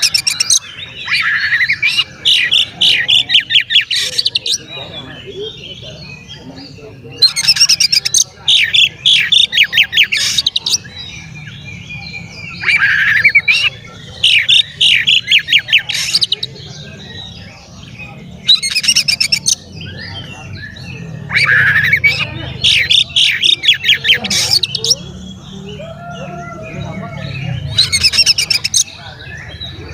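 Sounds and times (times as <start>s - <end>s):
bird singing whistles and chatter: 0.0s - 29.9s.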